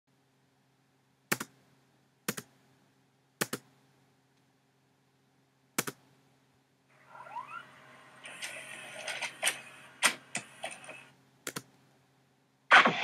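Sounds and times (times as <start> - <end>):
faint steady hum: 0.1 - 13.0.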